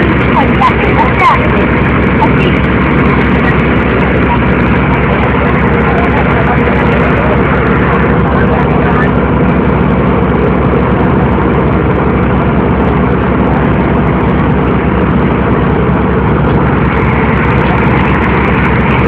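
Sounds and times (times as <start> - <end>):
boat engine throbbing: 0.0 - 19.0.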